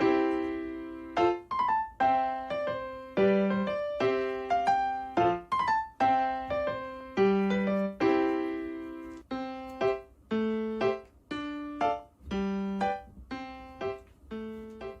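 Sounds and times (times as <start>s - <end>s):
slow electric piano melody: 0.0s - 15.0s.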